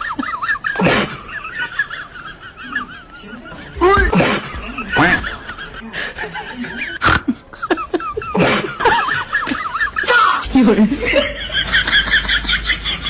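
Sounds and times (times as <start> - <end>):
person laughing: 0.0 - 13.0.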